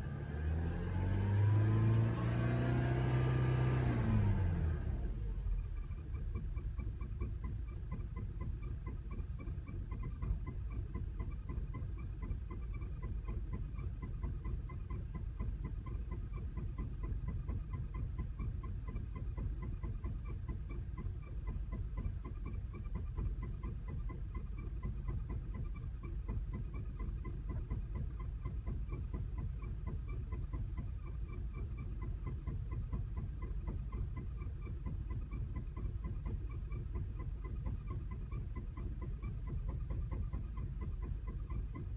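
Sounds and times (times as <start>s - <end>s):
light engine ticking: 1.2s - 41.9s
car engine idling roughly: 4.4s - 41.9s.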